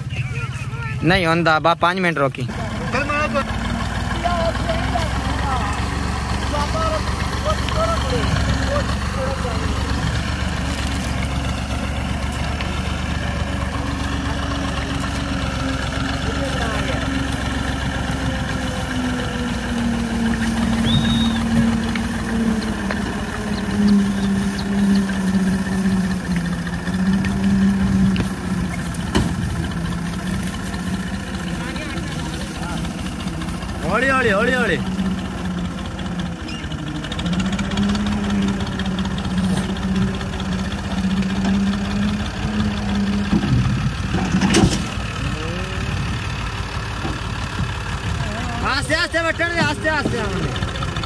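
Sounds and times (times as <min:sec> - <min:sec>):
diesel tractor engine humming: 0:00.0 - 0:51.0.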